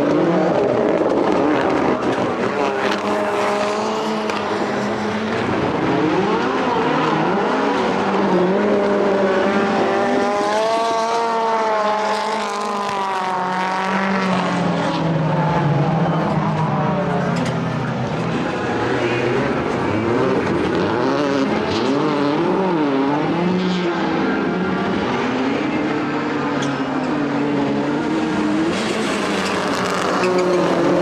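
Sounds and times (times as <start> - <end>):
racing car engines: 0.0 - 31.0.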